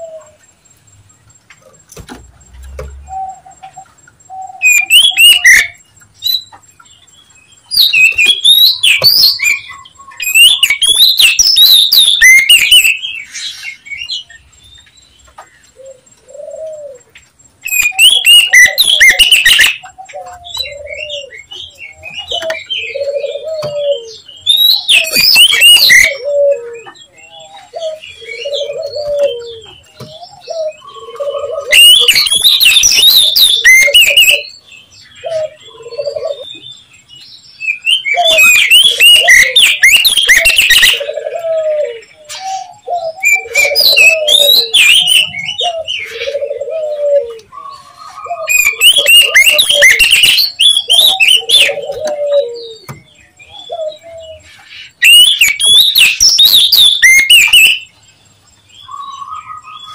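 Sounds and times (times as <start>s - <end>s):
bird chattering and whistling: 3.1s - 37.0s, 37.6s - 58.0s, 58.8s - 59.9s.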